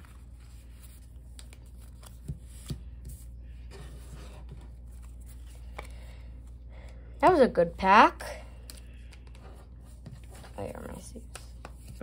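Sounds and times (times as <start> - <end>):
cards rustling: 0.0 - 7.0, 8.5 - 12.0
low steady hum: 0.0 - 12.0.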